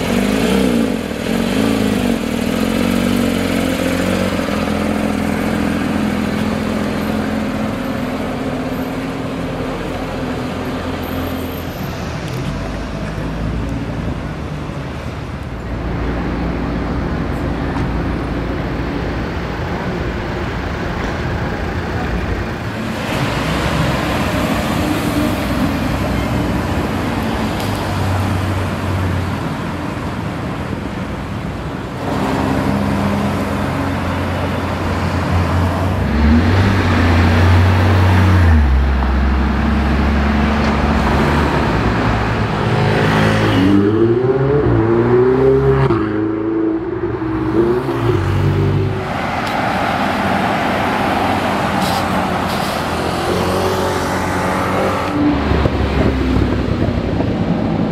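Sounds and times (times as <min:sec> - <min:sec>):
car engines in traffic: 0:00.0 - 0:57.9.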